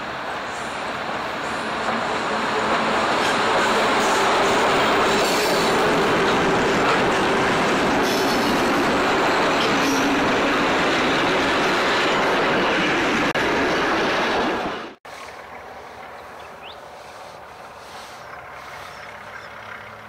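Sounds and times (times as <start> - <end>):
diesel locomotive engine passing: 0.0 - 20.0.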